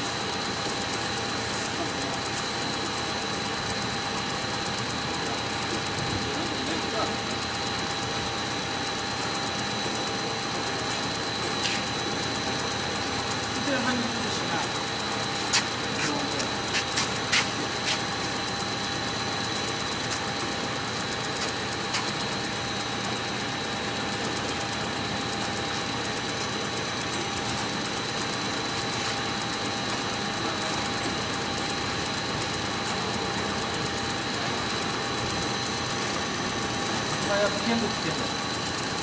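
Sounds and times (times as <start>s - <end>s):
machine whirring with high whine: 0.0s - 39.0s.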